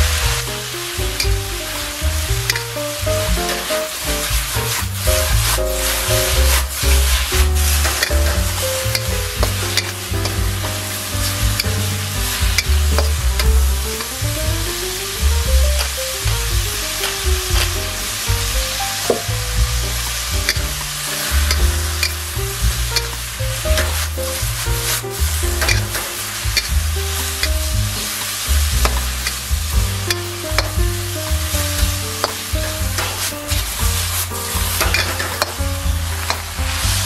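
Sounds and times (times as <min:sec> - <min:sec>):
background music with bass: 0:00.0 - 0:37.0
vegetables sizzling in a wok: 0:00.0 - 0:37.0.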